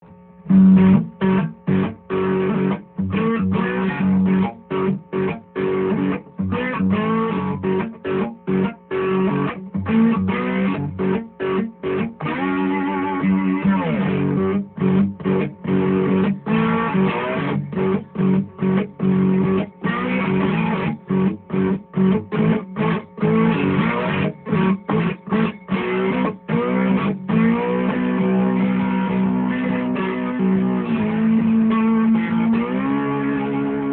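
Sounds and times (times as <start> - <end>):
cigar box guitar playing: 0.0 - 33.9.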